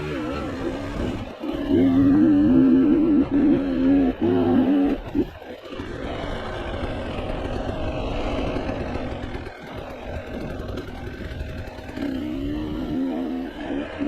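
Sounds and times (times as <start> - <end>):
off-road vehicle engine revving: 0.0 - 14.0
rattling and tyre noise: 0.0 - 14.0.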